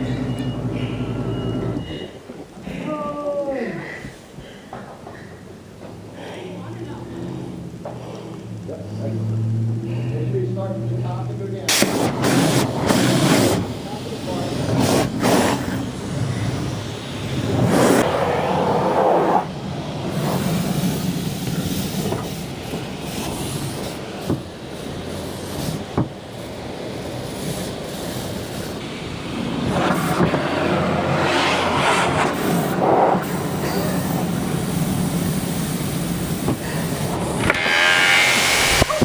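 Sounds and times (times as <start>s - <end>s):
rushing water spray: 6.6s - 39.0s.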